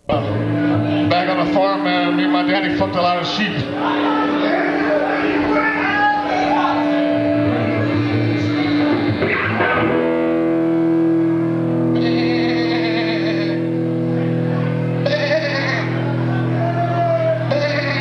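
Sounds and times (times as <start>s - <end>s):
electric guitar sustained notes: 0.0s - 18.0s
live band music: 0.0s - 18.0s.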